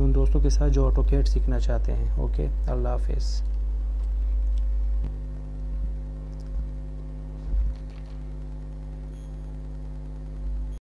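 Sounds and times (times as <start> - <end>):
electrical mains hum: 0.0 - 10.8.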